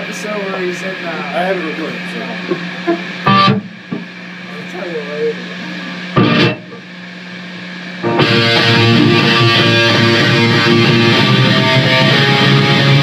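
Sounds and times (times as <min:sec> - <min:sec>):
amplifier low hum: 0:00.0 - 0:13.0
distorted electric guitar: 0:00.0 - 0:13.0.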